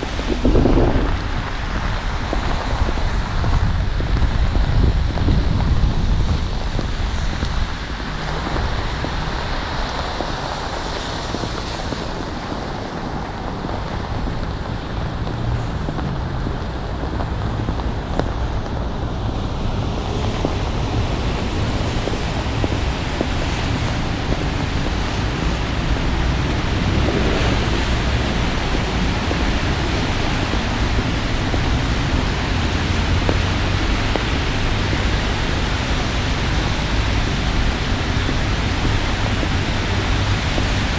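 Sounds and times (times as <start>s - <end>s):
road traffic: 0.0s - 40.9s
wind buffeting microphone: 0.0s - 40.9s.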